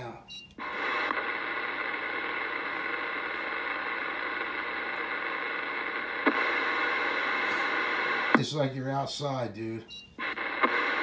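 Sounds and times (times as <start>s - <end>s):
radio speaker rushing noise: 0.0s - 9.5s, 10.2s - 11.0s.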